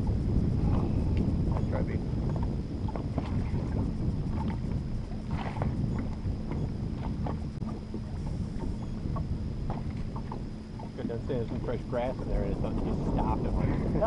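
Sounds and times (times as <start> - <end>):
water lapping against metal boat: 0.0 - 14.0
wind rumbling on microphone: 0.0 - 14.0.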